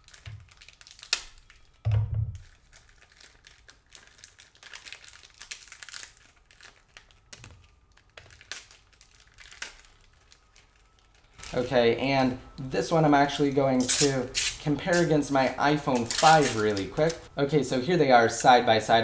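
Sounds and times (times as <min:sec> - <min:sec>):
plastic packaging crinkling: 0:00.0 - 0:17.4.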